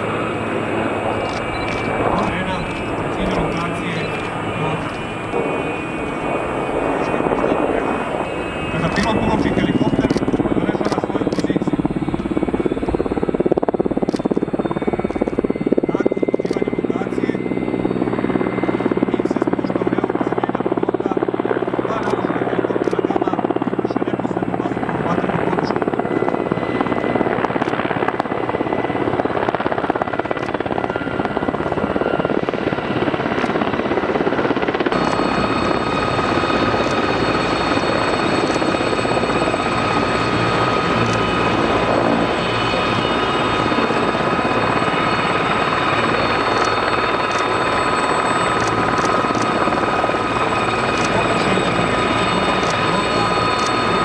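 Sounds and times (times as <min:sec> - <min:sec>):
helicopter rotor beating: 0:00.0 - 0:54.0
turbine engines whining: 0:00.0 - 0:54.0.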